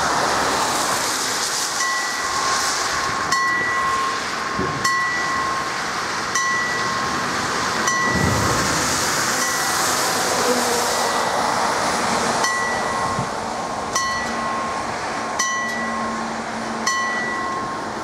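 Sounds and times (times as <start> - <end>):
traffic hiss on wet road: 0.0 - 18.0
crossing warning bell ringing: 1.8 - 11.8, 12.4 - 18.0.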